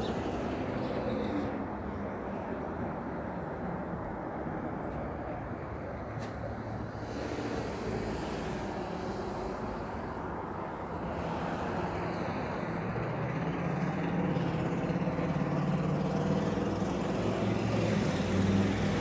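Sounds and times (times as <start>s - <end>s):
road traffic: 0.0s - 19.0s
vehicle engine hum: 0.0s - 19.0s.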